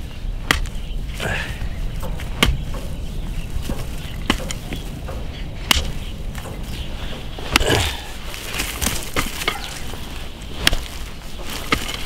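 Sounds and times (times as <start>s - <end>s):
hoe striking dry soil: 0.0s - 12.0s
soft knocks of blade and clods: 2.0s - 12.0s.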